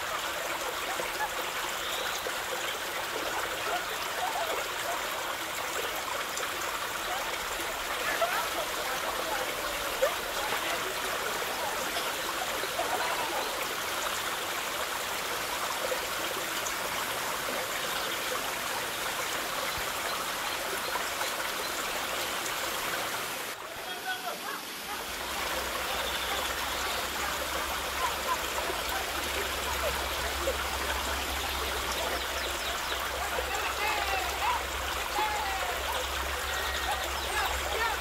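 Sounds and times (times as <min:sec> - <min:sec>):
waterfall rushing onto rocks: 0:00.0 - 0:38.0.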